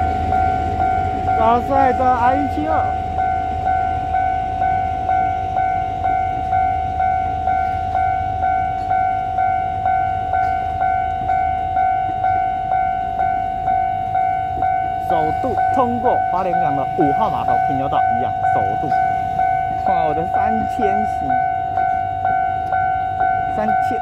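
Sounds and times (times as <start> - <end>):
level crossing bell ringing: 0.0 - 24.0
train rumbling slowly: 0.0 - 24.0.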